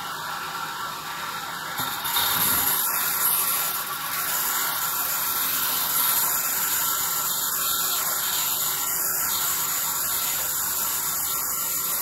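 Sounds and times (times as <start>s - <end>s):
band saw cutting log: 1.8s - 12.0s.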